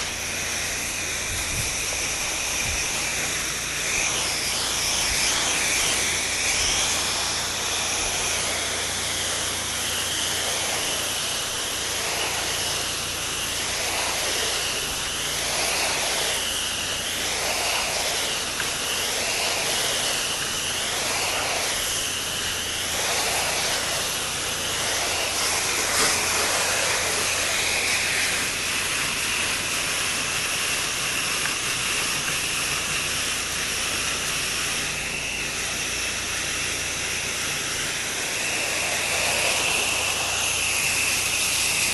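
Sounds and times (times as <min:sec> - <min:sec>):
pressure washer spray hissing: 0:00.0 - 0:41.9.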